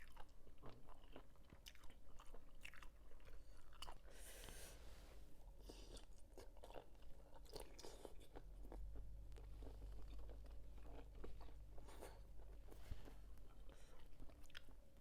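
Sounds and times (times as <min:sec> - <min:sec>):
chewing crunchy food: 0:00.0 - 0:04.6, 0:05.5 - 0:15.0.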